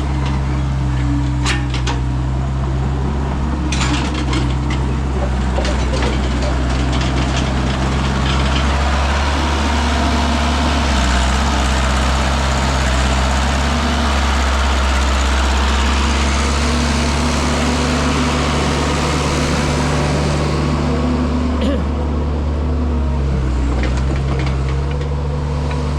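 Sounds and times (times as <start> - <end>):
heavy engine running: 0.0 - 25.9.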